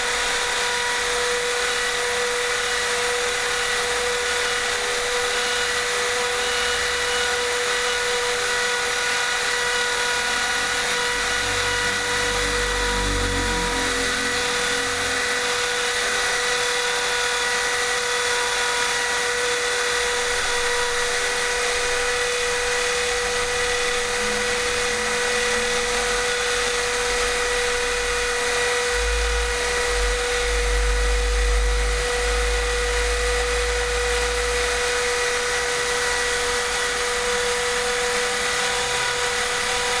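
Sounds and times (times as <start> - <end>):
axis motors humming: 0.0 - 40.0
router spindle whining: 0.0 - 40.0.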